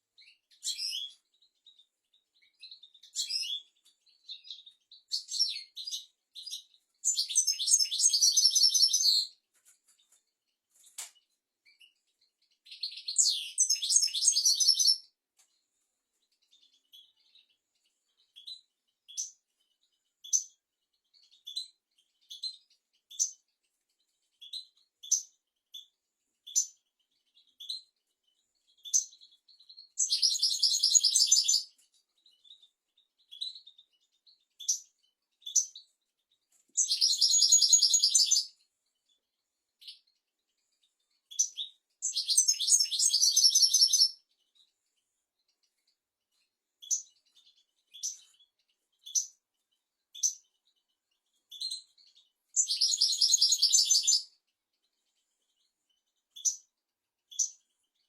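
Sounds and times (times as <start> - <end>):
goldfinch twittering song: 0.2 - 9.4, 10.9 - 15.1, 16.2 - 39.1, 39.8 - 44.7, 45.4 - 54.5, 55.1 - 58.0
high bird chirps: 0.2 - 9.4, 10.0 - 15.2, 16.2 - 23.6, 24.3 - 36.0, 36.6 - 39.2, 39.8 - 44.7, 45.4 - 54.5, 55.4 - 56.7, 57.3 - 58.0.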